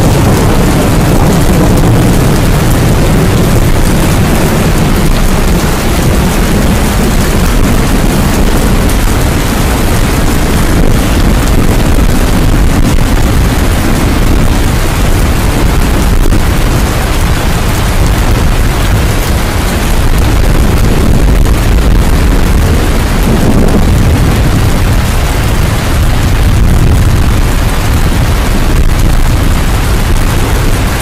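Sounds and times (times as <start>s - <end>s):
deep rumble: 0.0s - 31.0s
heavy rain: 0.0s - 31.0s.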